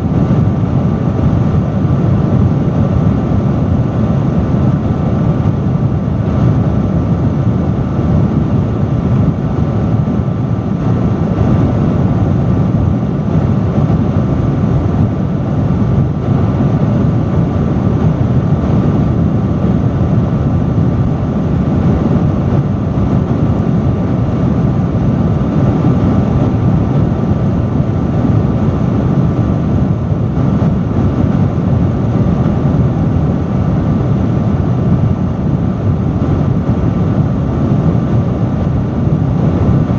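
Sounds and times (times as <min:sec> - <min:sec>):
faint motor hum: 0:00.0 - 0:39.9
industrial fan rushing air: 0:00.0 - 0:39.9.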